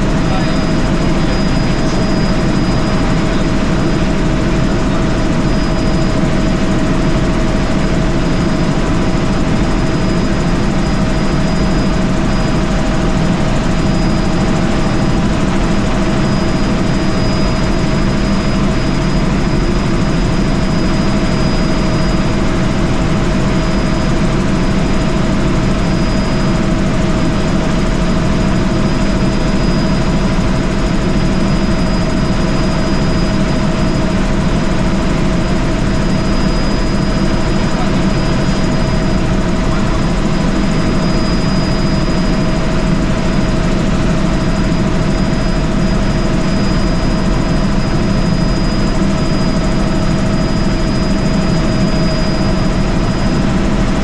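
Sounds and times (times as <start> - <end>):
helicopter engine and rotor drone: 0.0 - 54.0
high whine: 0.0 - 54.0.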